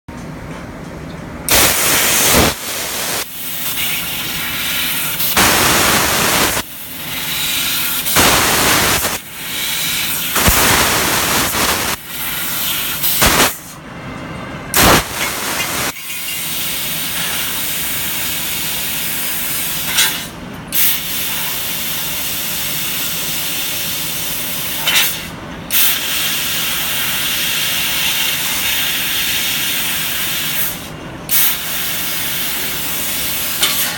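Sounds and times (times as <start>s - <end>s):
laser cutter gas jet hissing: 1.5s - 13.7s, 14.8s - 33.9s.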